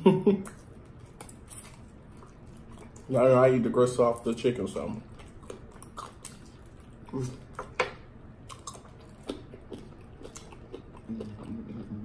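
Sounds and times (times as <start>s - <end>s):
chewing chicken wings: 0.5s - 12.0s.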